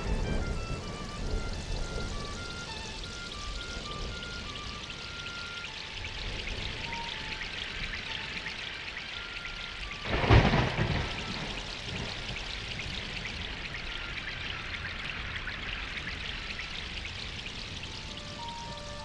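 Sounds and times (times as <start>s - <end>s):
heavy wind-driven rain: 0.0s - 19.0s.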